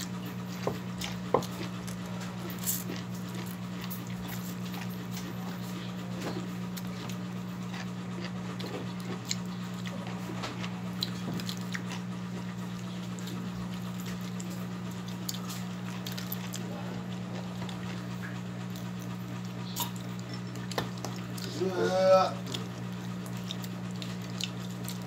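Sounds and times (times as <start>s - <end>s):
chewing: 0.0s - 25.0s
steady low hum: 0.0s - 25.0s.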